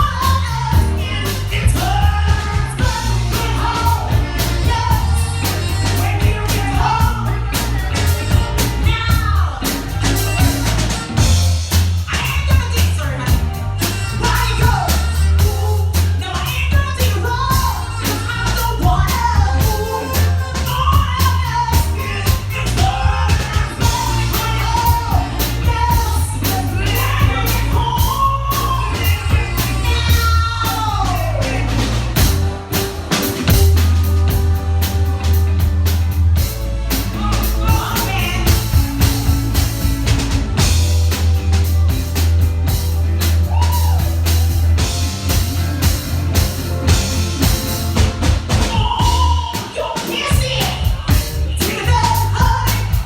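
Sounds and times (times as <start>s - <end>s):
woman singing: 0.0s - 35.4s, 36.9s - 40.0s, 48.5s - 53.0s
soul band playing: 0.0s - 53.0s.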